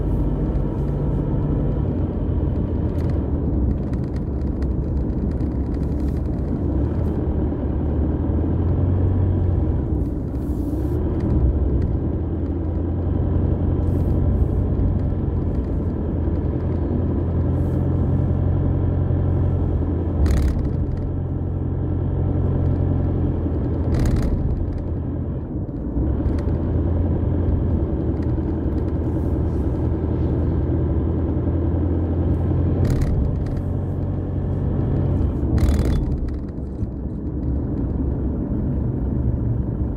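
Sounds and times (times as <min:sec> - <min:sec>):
engine and road noise in car: 0:00.0 - 0:39.9.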